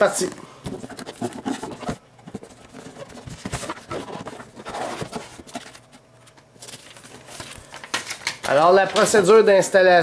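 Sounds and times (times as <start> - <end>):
cardboard and paper rustling: 0.6 - 9.2.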